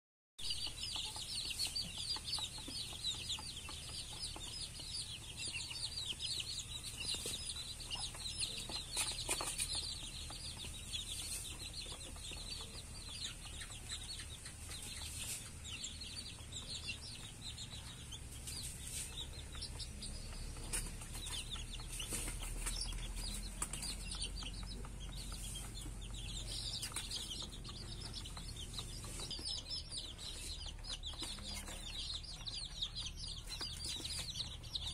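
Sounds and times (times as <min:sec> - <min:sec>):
chicks cheeping: 0:00.4 - 0:34.9.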